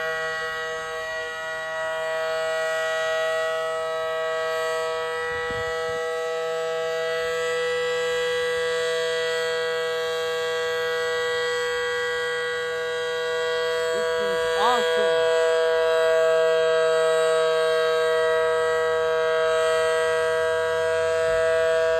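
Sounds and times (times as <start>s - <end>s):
warning siren two-note chord: 0.0s - 21.9s.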